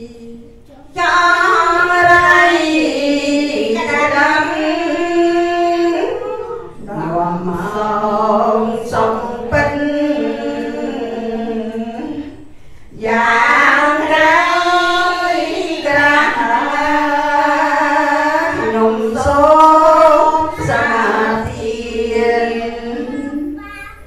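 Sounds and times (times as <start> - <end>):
woman singing into microphone: 0.0 - 23.4
women chanting: 0.0 - 23.6.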